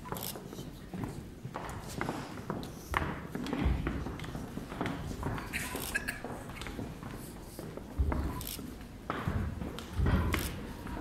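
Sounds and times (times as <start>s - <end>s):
footsteps on wooden stage: 0.0s - 11.0s
heeled shoes clicking: 0.0s - 11.0s.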